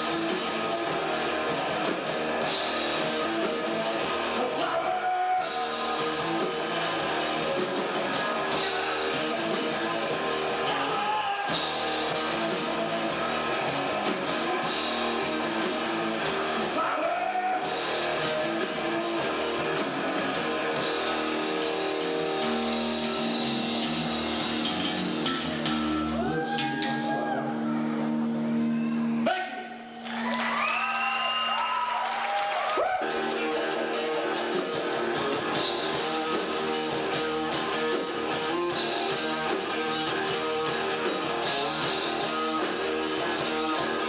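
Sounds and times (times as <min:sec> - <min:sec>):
drum kit: 0:00.0 - 0:27.4, 0:31.7 - 0:44.0
electric guitar: 0:00.0 - 0:44.0.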